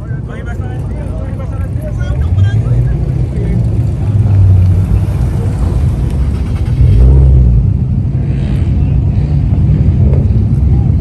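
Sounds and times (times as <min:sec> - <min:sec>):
deep rumble of car engines: 0:00.0 - 0:11.0.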